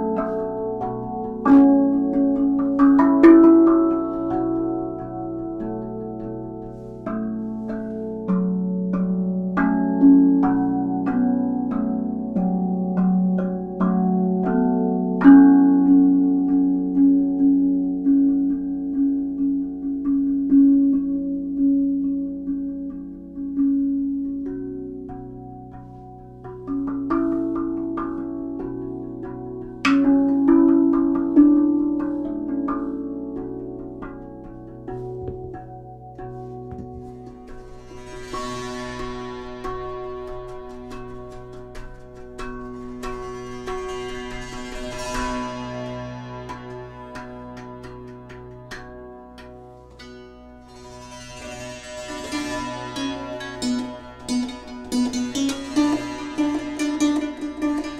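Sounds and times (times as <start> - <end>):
steel tongue drum melody: 0.0 - 57.9.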